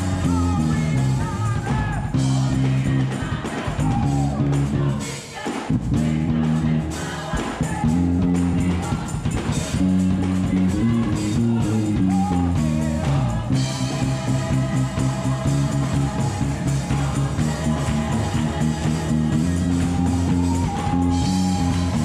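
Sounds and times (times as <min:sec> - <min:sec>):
electric bass guitar: 0:00.0 - 0:05.0, 0:05.7 - 0:22.0
gospel music with singing: 0:00.0 - 0:22.0.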